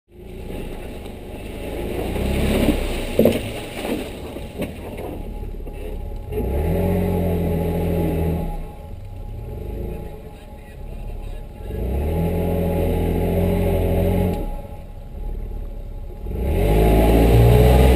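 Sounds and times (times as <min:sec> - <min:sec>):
off-road vehicle engine revving: 0:00.1 - 0:17.9.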